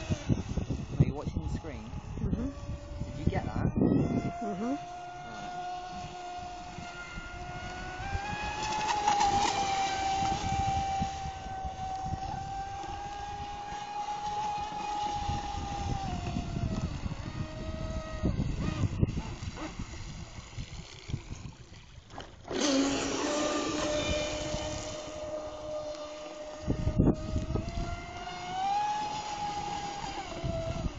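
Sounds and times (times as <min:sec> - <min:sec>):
electric motor whine: 0:00.0 - 0:30.9.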